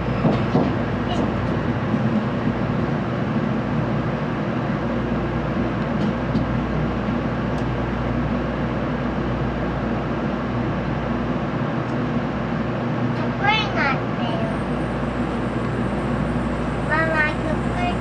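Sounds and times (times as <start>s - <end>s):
train rumble and hiss: 0.0s - 18.0s.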